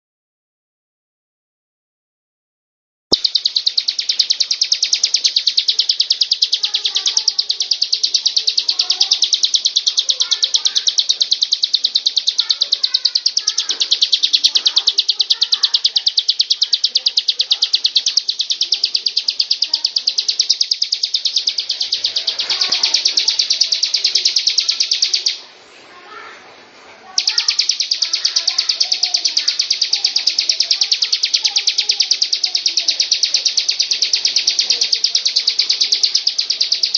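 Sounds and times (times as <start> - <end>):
bird singing high sharp notes: 3.1 - 25.4, 27.2 - 36.9
lower bird chirping: 3.1 - 25.5, 27.1 - 36.9.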